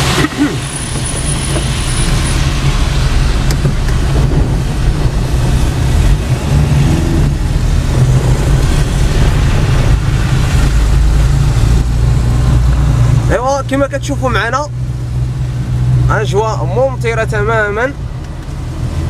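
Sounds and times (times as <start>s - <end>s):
engine and road rumble: 0.0s - 19.0s
tyres hissing on wet road: 0.0s - 19.0s.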